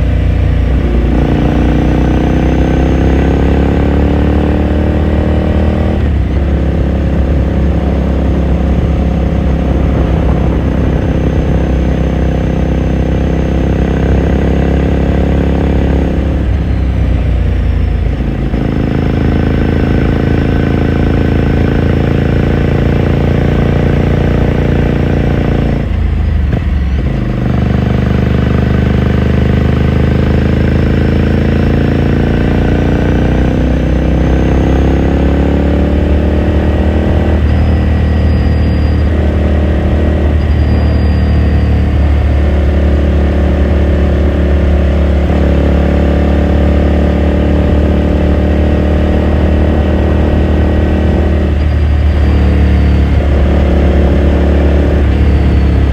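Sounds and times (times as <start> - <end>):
motorcycle exhaust while riding: 0.0 - 55.9.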